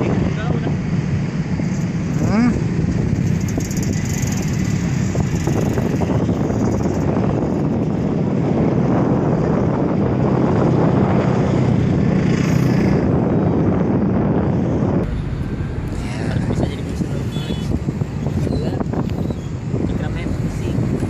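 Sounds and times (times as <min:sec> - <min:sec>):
engine droning: 0:00.0 - 0:21.0
wind rushing over microphone: 0:00.0 - 0:21.0.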